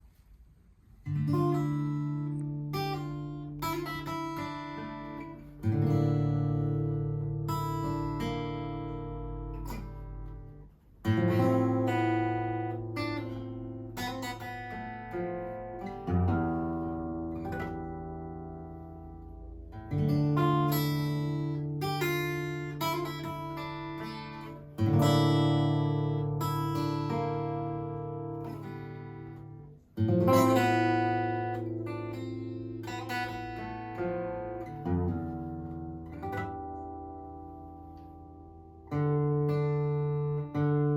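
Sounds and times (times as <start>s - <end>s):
acoustic guitar chords: 0.0s - 40.9s.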